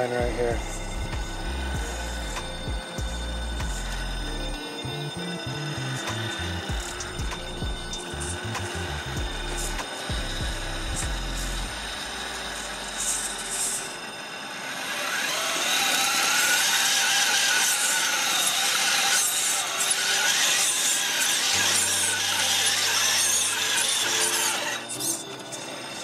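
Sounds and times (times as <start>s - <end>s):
rc car motor whining: 0.0s - 26.0s.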